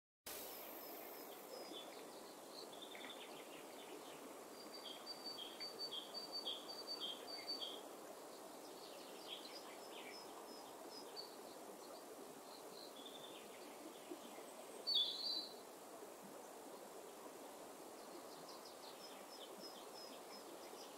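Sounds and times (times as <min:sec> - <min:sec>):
low background noise: 0:00.3 - 0:20.9.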